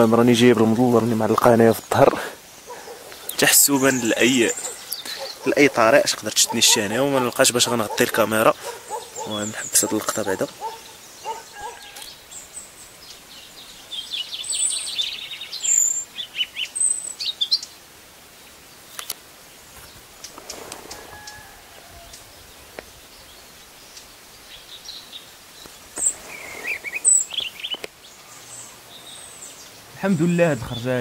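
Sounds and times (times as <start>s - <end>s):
robin singing: 0.0s - 19.0s, 19.6s - 31.0s.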